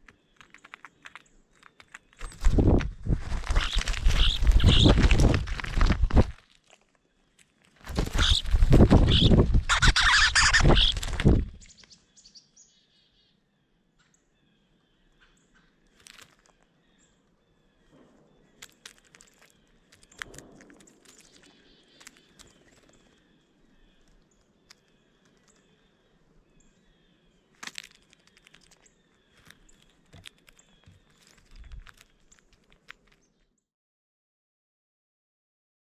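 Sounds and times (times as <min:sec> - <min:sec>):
small birds chirping: 0:00.0 - 0:33.6.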